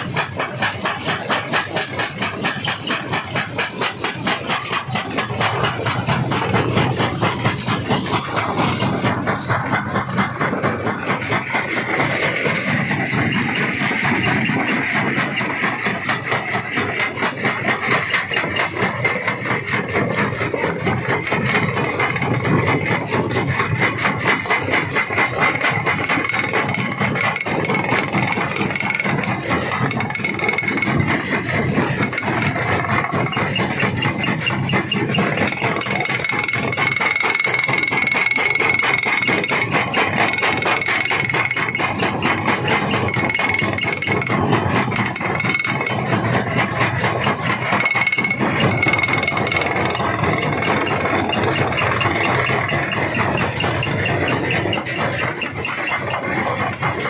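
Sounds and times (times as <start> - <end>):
high machine whine: 0.0 - 57.0
stone crusher rattling: 0.0 - 57.0.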